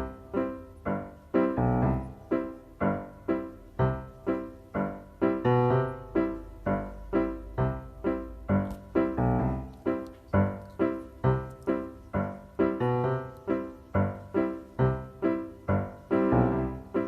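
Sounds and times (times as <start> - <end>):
piano notes: 0.0 - 17.0.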